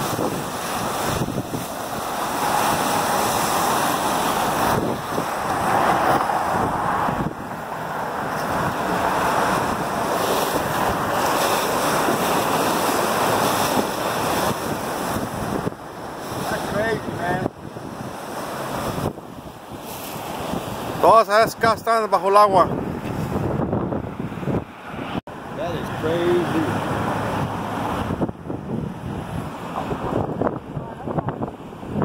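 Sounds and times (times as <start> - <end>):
floodwater rushing: 0.0 - 32.0
wind buffeting microphone: 0.0 - 32.0.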